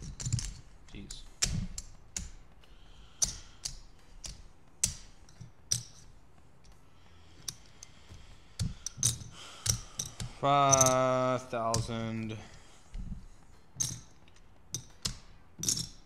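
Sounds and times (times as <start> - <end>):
casino chips clacking: 0.0 - 16.0.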